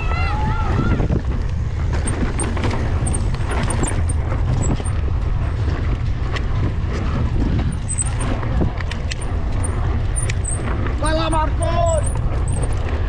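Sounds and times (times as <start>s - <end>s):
tyres rumbling on dirt: 0.0s - 13.0s
wind on microphone: 0.0s - 13.0s
bike clicks and rattles: 0.7s - 13.0s.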